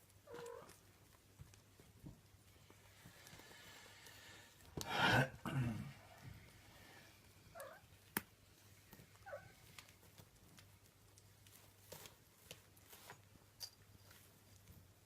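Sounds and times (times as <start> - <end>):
kittens scuffling and tapping: 0.0 - 4.9, 6.2 - 15.0.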